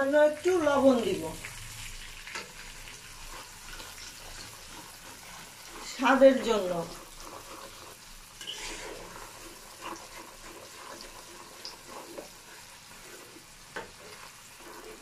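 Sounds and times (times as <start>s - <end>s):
onions sizzling in hot oil: 0.0s - 15.0s
metal spatula scraping a pan: 2.0s - 15.0s.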